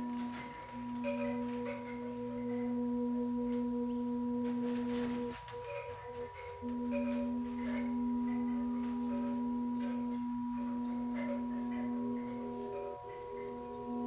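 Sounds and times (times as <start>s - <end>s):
meditation drone music: 0.0s - 14.0s
soft high notes: 0.0s - 14.0s.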